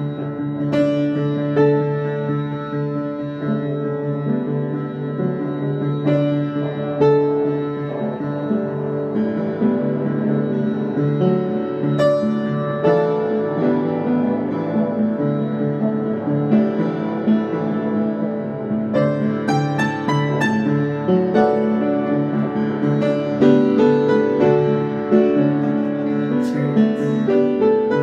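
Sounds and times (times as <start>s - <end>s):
upright piano chords: 0.0s - 28.0s.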